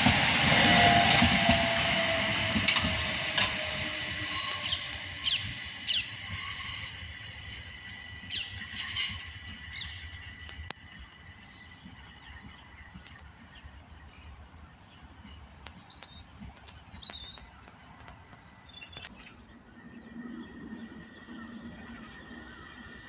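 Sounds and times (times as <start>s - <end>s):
distant train rumble: 0.0s - 23.0s.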